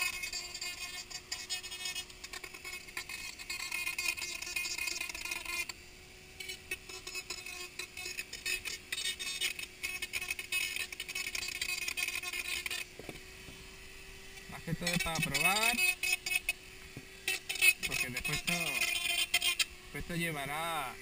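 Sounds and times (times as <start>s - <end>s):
rotary tool motor whine: 0.0s - 21.0s.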